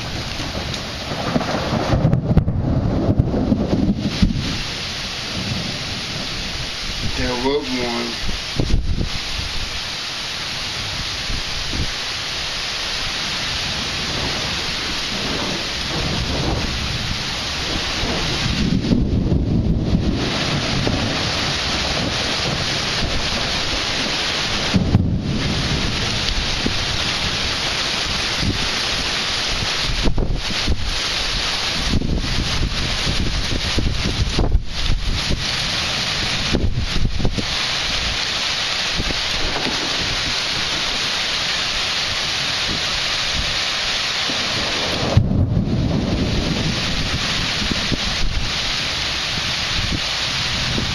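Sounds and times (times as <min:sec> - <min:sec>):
thunder rumbling: 0:00.0 - 0:09.8, 0:10.7 - 0:50.9
heavy rain hissing: 0:00.0 - 0:50.9
wind rushing through trees: 0:00.0 - 0:50.9.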